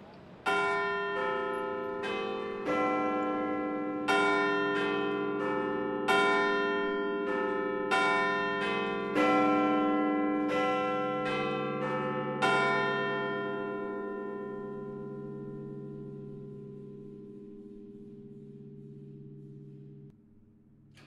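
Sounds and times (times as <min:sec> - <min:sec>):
clock tower bells chiming: 0:00.4 - 0:20.1.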